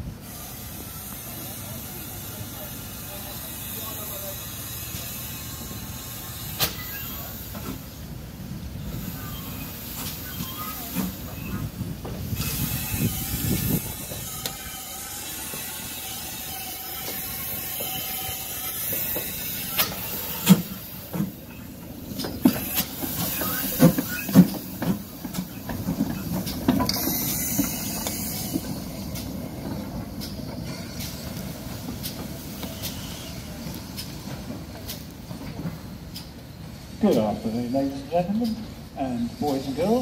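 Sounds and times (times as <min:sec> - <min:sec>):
steam hissing: 0:00.0 - 0:40.0
steam locomotive moving slowly: 0:00.0 - 0:40.0.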